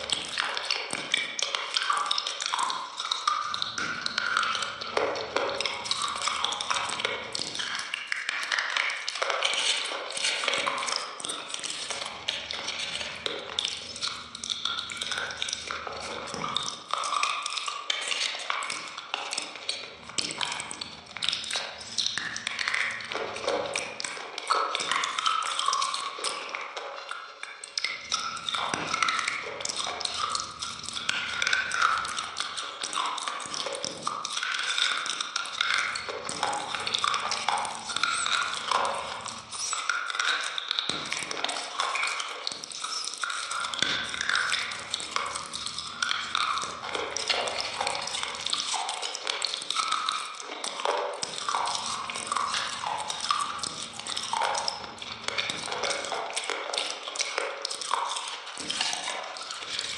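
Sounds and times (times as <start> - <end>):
biting and chewing ice cream: 10.6 - 59.9.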